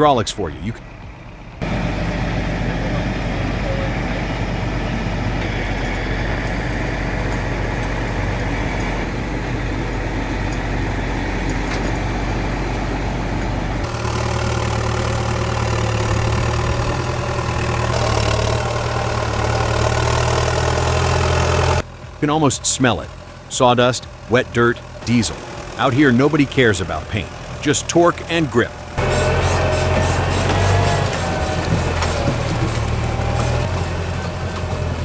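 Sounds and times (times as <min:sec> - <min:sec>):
engine with low hum: 0:00.0 - 0:35.0
heavy machinery engine running: 0:00.0 - 0:35.0.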